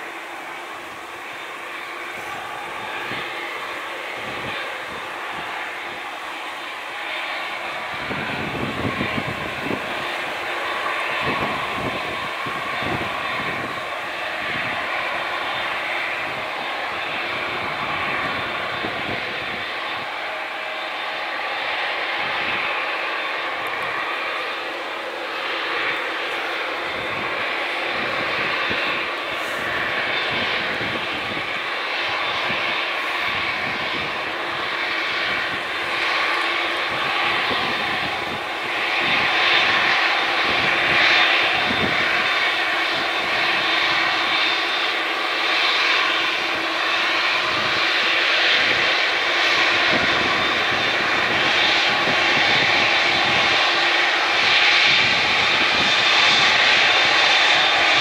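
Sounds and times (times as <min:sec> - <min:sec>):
jet airliner engines: 0:00.0 - 0:58.0.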